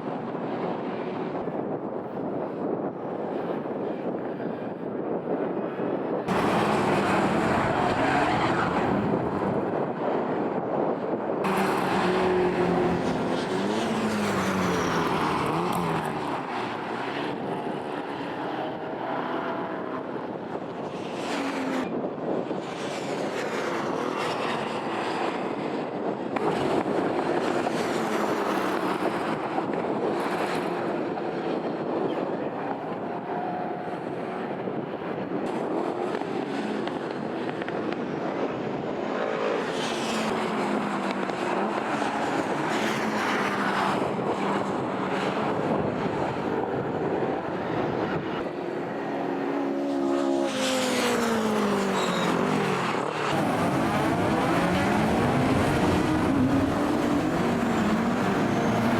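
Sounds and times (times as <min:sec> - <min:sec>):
racing car engines at full throttle: 0:00.0 - 0:58.9.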